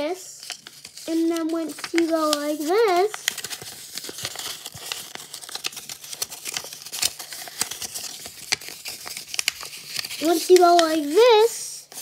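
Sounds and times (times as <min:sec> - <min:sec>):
paper crinkling and rustling: 0:00.2 - 0:12.0.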